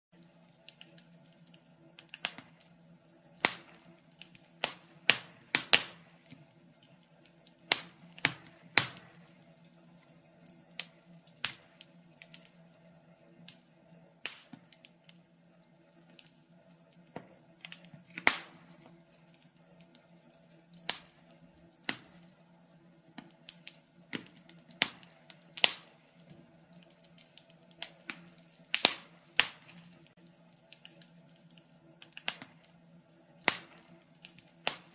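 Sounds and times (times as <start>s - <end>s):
wood fire crackling and popping: 0.2s - 34.9s.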